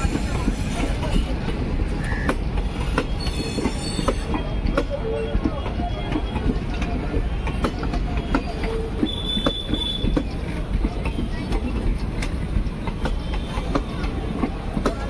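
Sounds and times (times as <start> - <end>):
train coaches rumbling past: 0.0 - 15.0
wheels clanking over rail joints: 0.0 - 15.0.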